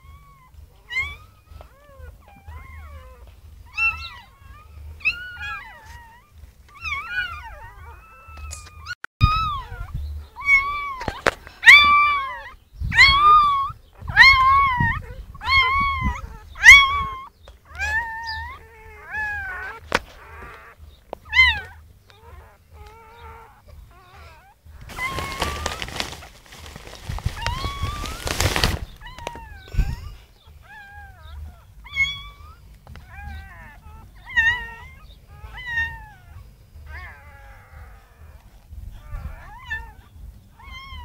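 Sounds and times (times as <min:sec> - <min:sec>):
puppies squealing: 0:00.0 - 0:41.0.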